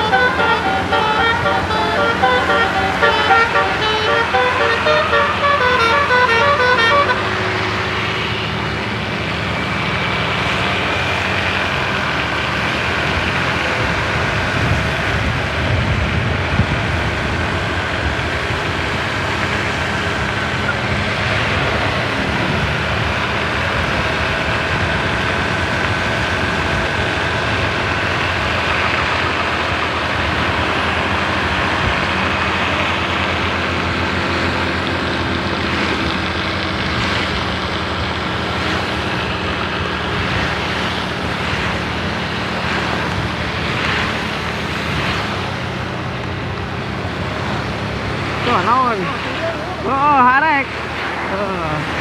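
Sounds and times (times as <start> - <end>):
heavy vehicle engine running: 0.0 - 52.0.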